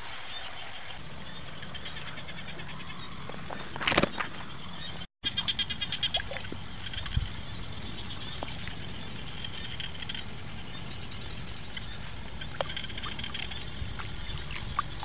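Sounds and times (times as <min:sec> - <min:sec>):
grass rustling near microphone: 0:00.0 - 0:15.0
frogs trilling: 0:01.0 - 0:15.0.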